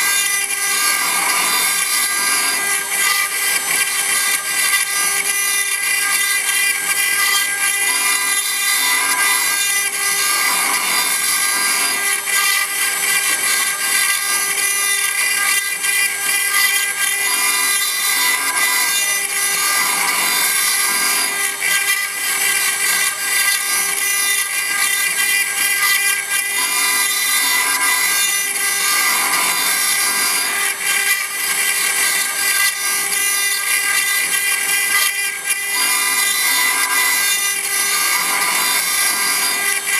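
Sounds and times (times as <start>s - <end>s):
bit grinding stone: 0.0s - 39.9s
machine spindle whine: 0.0s - 39.9s.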